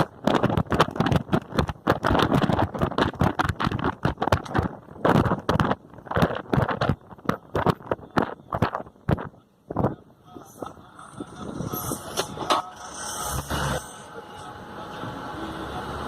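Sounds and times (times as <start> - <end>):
bus rattling and knocking: 0.0 - 16.0
road rumble: 0.0 - 16.0.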